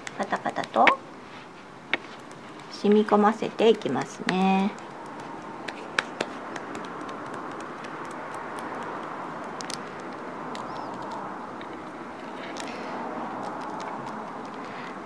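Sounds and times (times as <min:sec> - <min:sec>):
fingertips patting skin: 0:01.9 - 0:14.8.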